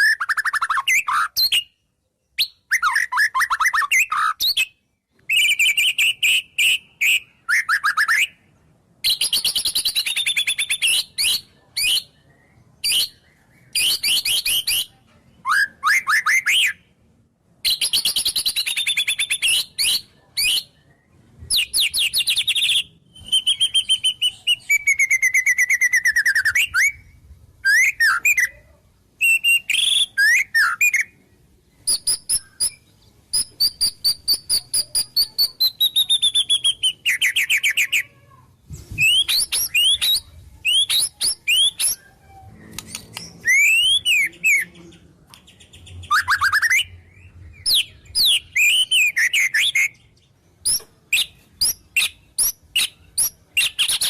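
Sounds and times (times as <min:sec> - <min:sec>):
bird singing varied phrases: 0:00.0 - 0:54.0.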